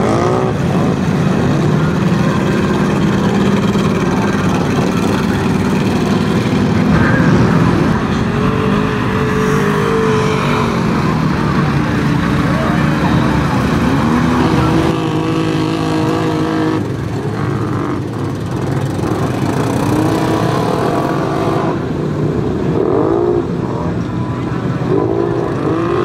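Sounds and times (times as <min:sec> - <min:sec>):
truck engines driving past: 0:00.0 - 0:26.0.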